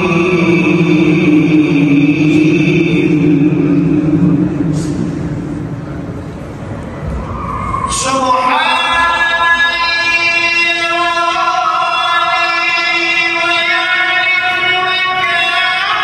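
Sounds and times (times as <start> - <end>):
person chanting prayer with echo: 0.0 - 5.8, 7.9 - 16.0.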